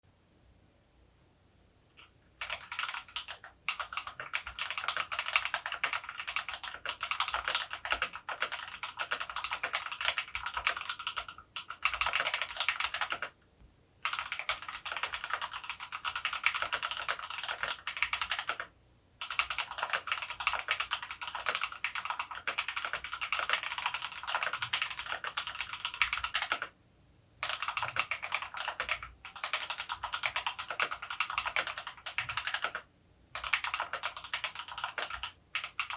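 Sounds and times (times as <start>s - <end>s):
mechanical keyboard typing: 2.0s - 13.4s, 14.0s - 26.8s, 27.4s - 35.9s.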